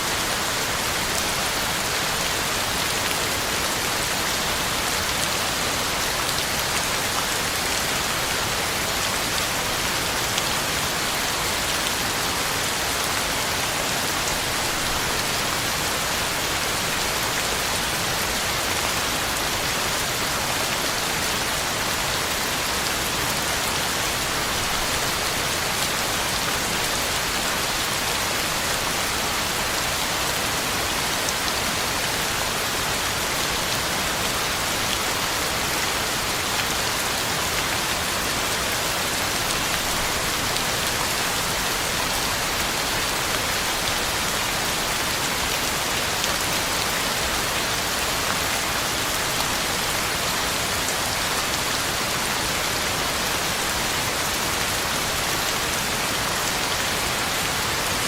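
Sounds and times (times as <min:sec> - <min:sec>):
heavy rain on ground and leaves: 0:00.0 - 0:58.0.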